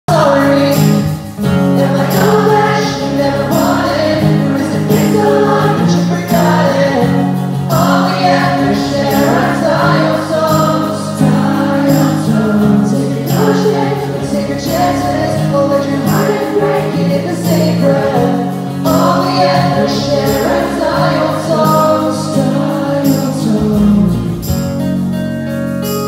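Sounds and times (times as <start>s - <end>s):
person singing: 0.1s - 24.8s
acoustic guitars: 0.1s - 26.0s
electric bass: 0.1s - 26.0s
percussion hits: 0.1s - 26.0s.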